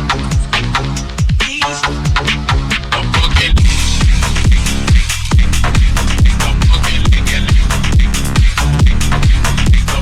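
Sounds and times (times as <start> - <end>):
drum and bass electronic music: 0.0 - 10.0.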